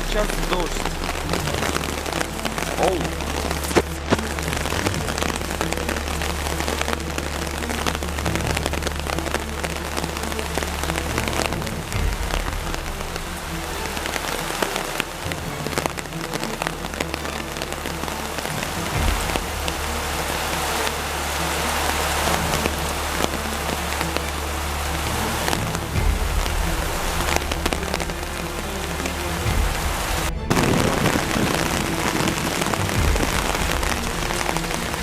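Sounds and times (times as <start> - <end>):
low hum: 0.0 - 35.0
rain falling: 0.0 - 35.0
raindrops tapping near microphone: 0.0 - 35.0.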